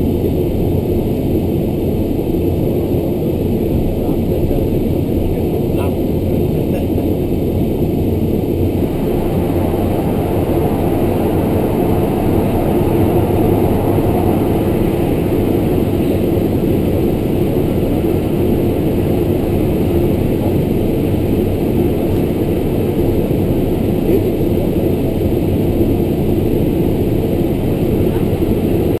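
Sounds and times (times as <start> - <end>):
turboprop engines and propellers: 0.0 - 29.0.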